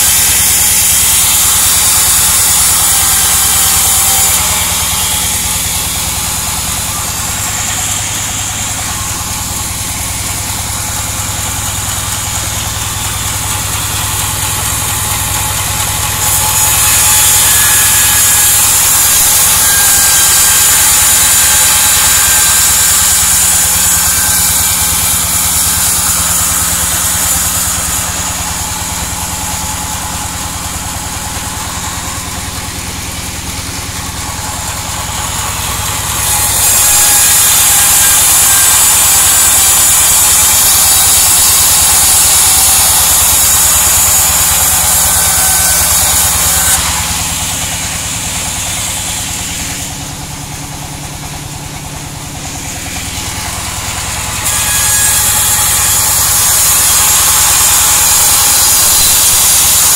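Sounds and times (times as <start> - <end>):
band saw humming: 0.0 - 59.9
saw blade cutting log hiss: 0.0 - 59.9.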